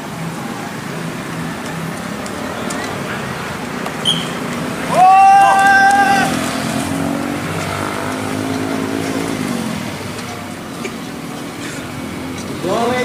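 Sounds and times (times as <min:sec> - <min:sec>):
vehicle engine passing by: 0:00.6 - 0:13.0.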